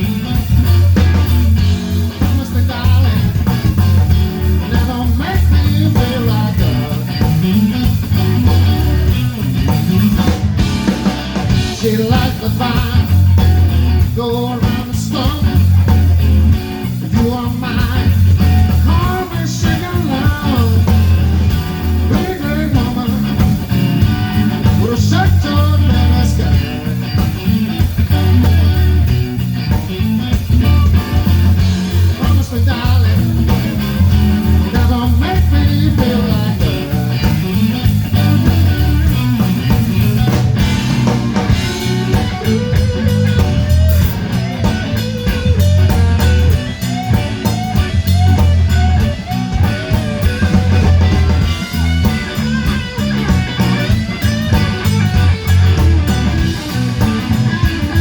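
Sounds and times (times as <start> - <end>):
blues band playing: 0.0 - 58.0
electric guitar lines: 0.0 - 58.0
steady bass pulse: 0.0 - 58.0.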